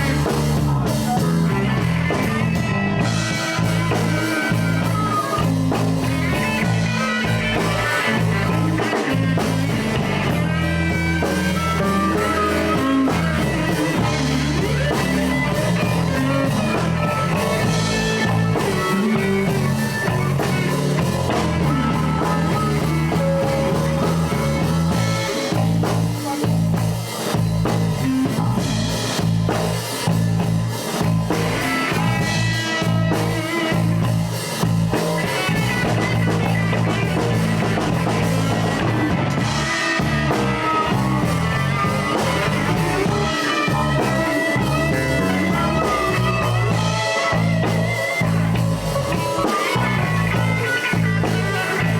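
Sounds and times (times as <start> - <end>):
bass and drums: 0.0 - 51.9
electric guitar soloing: 0.0 - 51.9.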